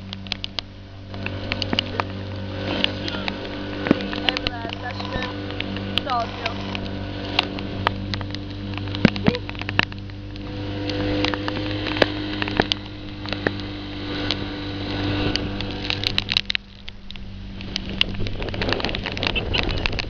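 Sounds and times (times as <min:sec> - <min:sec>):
speedboat engine running: 0:00.0 - 0:20.0.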